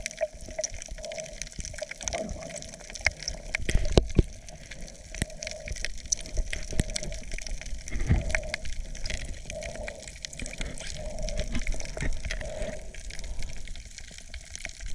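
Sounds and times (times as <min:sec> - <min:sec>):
small sharp clicks and crackles: 0:00.0 - 0:14.9.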